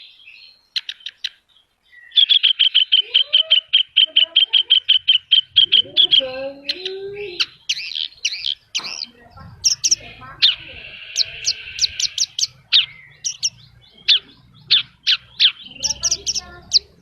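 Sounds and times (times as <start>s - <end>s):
bird singing rapid high notes: 0.0s - 17.0s.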